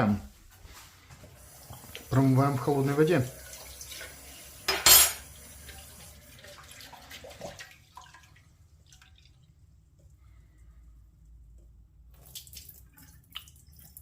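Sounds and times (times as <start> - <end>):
water sloshing and dripping: 1.0 - 10.7, 11.6 - 14.0.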